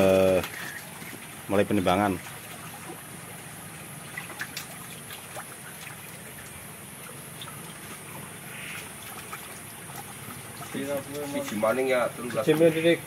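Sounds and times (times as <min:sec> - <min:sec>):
running water hissing: 0:00.0 - 0:13.0.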